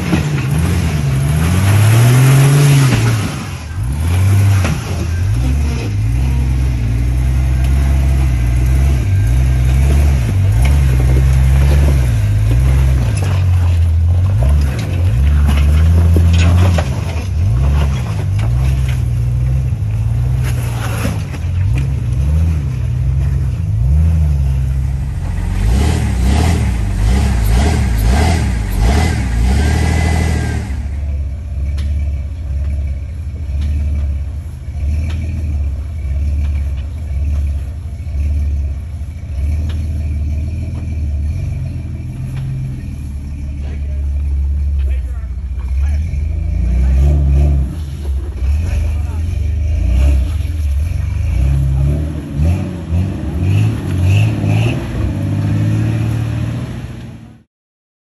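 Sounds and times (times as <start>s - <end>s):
engine revving: 0.0s - 57.5s.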